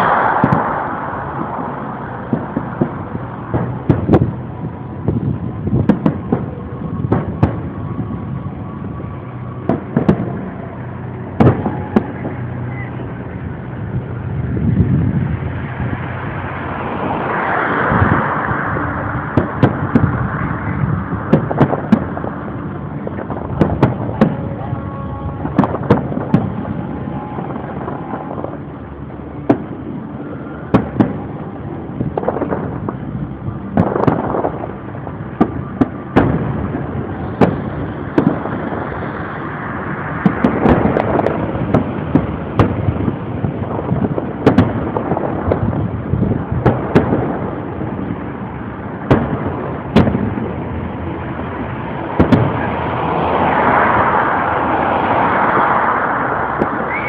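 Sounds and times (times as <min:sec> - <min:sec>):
continuous rumbling din: 0:00.0 - 0:57.0
fireworks bursting in sharp bangs: 0:00.0 - 0:57.0.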